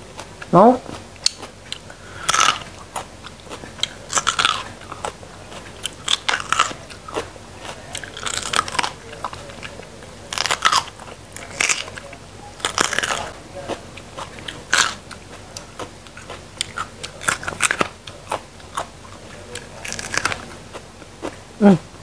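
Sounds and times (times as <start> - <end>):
crunchy chewing: 0.0 - 21.8.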